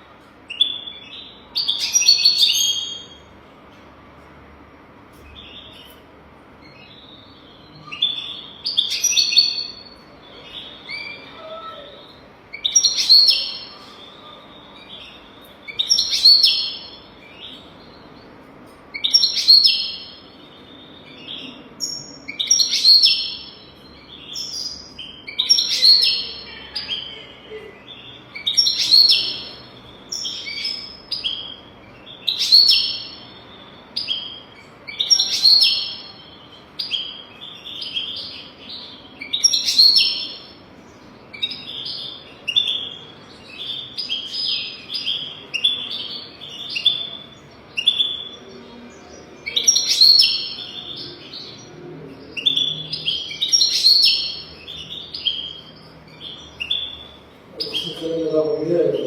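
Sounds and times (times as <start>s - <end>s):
finch singing twittering phrases: 6.6s - 59.0s.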